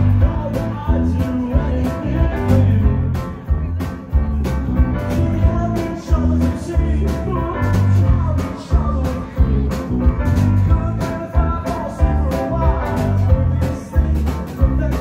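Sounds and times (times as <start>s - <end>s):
electric bass notes: 0.0s - 15.0s
live rock band playing: 0.0s - 15.0s.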